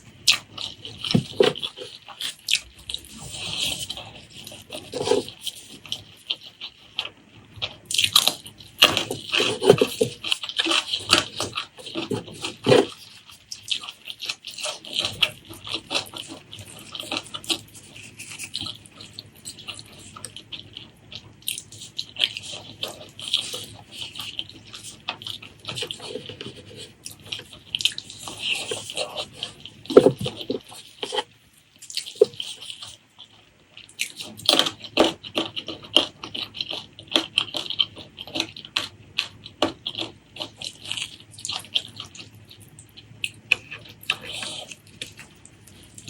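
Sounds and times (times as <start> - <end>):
wet chewing and lip-smacking: 0.0 - 46.0.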